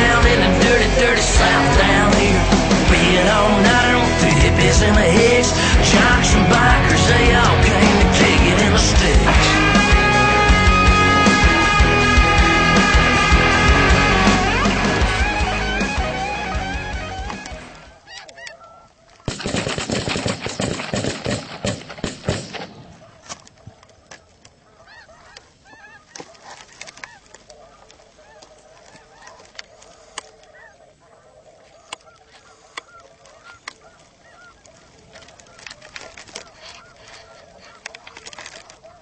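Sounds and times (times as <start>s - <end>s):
geese honking in flight: 0.0s - 19.4s, 22.9s - 39.0s.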